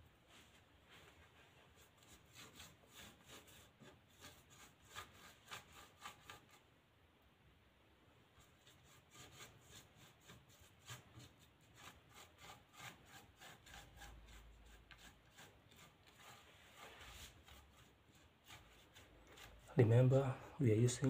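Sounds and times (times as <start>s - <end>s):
paintbrush rubbing on board: 0.3s - 6.6s, 8.4s - 20.4s.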